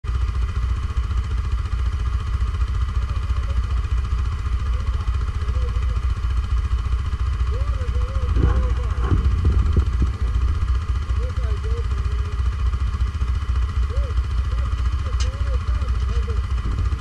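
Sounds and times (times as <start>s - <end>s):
atv engine rumbling: 0.0s - 17.0s.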